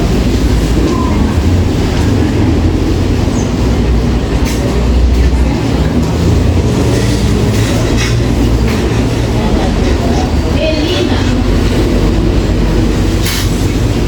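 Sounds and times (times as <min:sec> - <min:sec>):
indistinct voices: 0:00.0 - 0:14.0
steady low rumble: 0:00.0 - 0:14.0.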